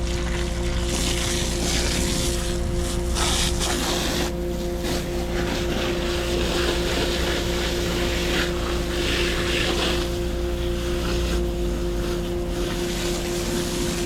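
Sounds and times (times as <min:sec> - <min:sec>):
motor droning hum: 0:00.0 - 0:14.0.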